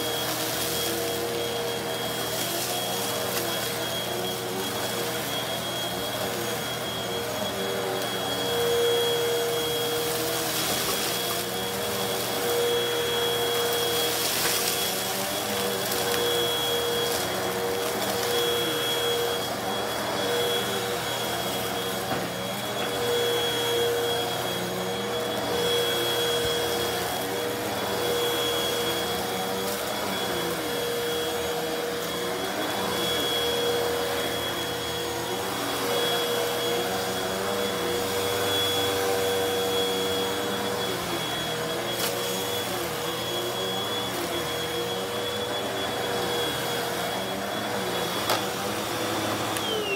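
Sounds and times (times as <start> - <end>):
vacuum cleaner running on carpet: 0.0 - 49.9.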